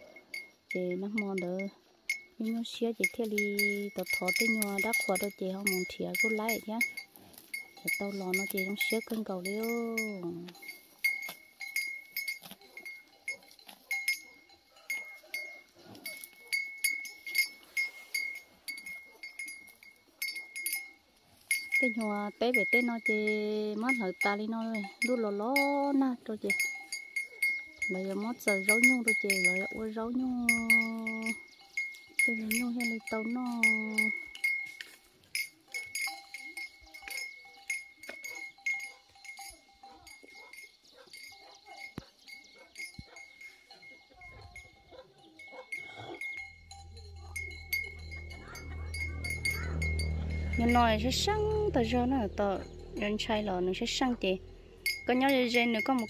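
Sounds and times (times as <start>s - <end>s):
cowbell clanking: 0.0s - 56.0s.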